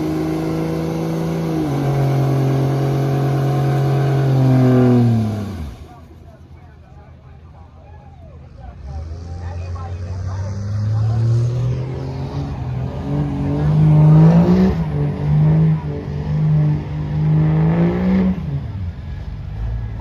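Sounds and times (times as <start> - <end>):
truck engine revving: 0.0 - 6.9, 8.5 - 20.0.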